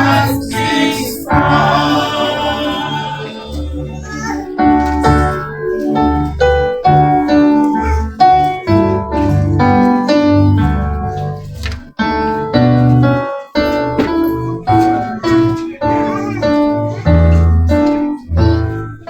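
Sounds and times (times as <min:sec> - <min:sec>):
keyboard chords and melody: 0:00.0 - 0:19.0.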